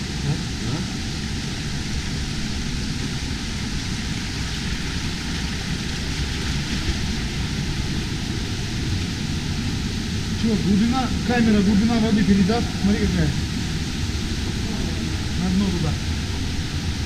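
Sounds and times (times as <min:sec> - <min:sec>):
waterfall roar: 0:00.0 - 0:17.0.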